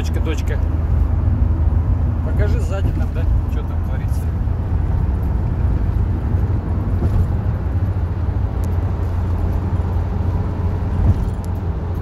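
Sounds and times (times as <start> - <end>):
diesel engine drone: 0.0 - 12.0
road noise: 0.0 - 12.0.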